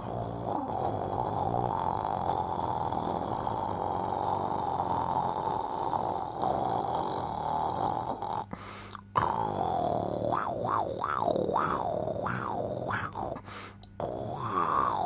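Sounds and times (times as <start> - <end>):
person snoring: 0.0 - 15.0.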